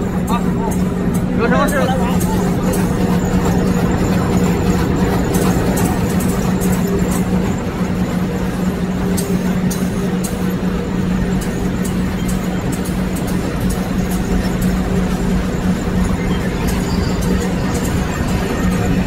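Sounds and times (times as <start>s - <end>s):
printing machine droning: 0.0s - 19.0s.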